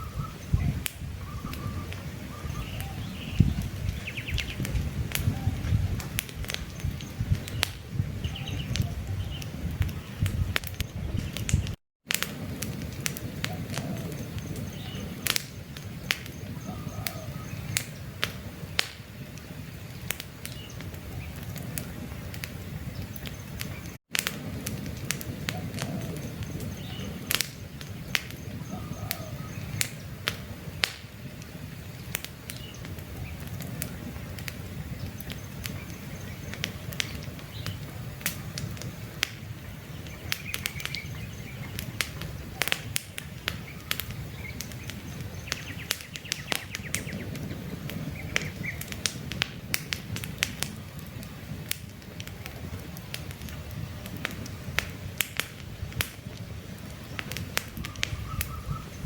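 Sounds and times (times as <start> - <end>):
birds chirping: 0.0 - 11.8, 13.0 - 24.0, 24.8 - 49.3, 56.3 - 59.0
campfire crackling: 0.0 - 59.0.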